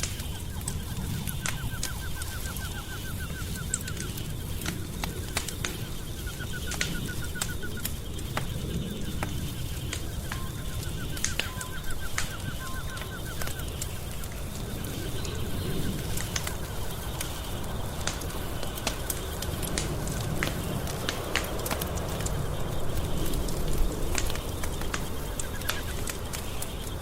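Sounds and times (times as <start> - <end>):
rapid trilling chirp: 0.0 - 27.0
sharp pops from fire: 0.0 - 27.0
wood fire crackling: 0.0 - 27.0.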